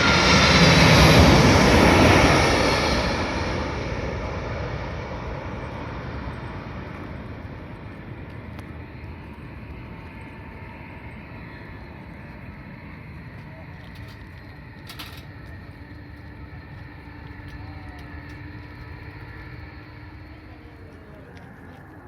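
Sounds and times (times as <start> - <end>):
jet engines rumbling: 0.0 - 22.0
faint steady whine: 4.0 - 22.0.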